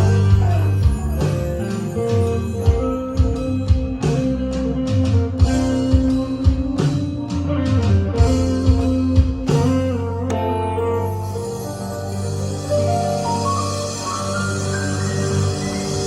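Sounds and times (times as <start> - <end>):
guitar: 0.0 - 16.0
sustained bass notes: 0.0 - 16.0.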